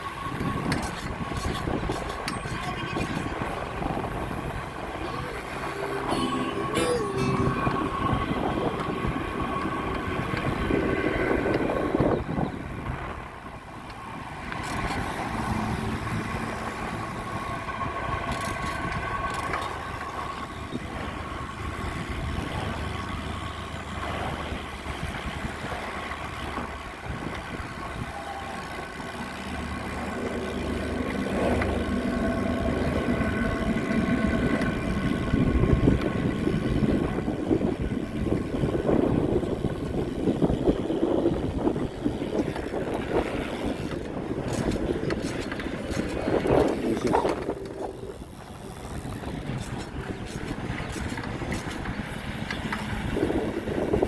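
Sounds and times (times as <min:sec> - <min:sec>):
traffic engines rumbling: 0:00.0 - 0:54.0.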